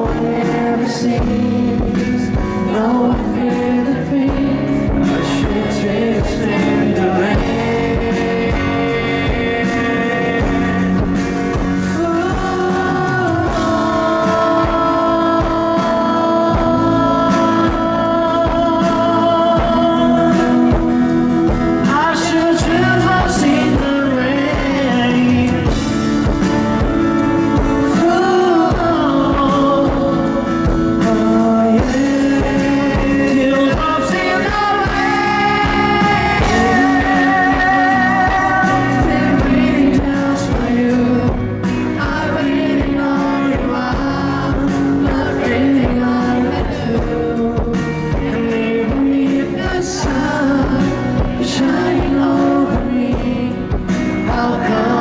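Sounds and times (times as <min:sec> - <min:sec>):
bending melodic lead line: 0:00.0 - 0:55.0
live rock band playing: 0:00.0 - 0:55.0.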